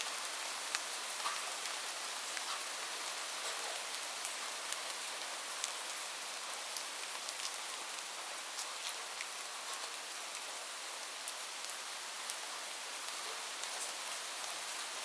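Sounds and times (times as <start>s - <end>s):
raindrops ticking on a surface: 0.1s - 14.9s.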